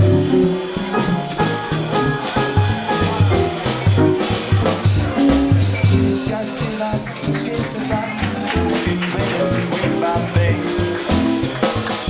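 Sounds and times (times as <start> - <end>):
drum kit and cymbals: 0.0 - 12.0
jazz band playing swing: 0.0 - 12.0
walking bass line: 0.0 - 12.0.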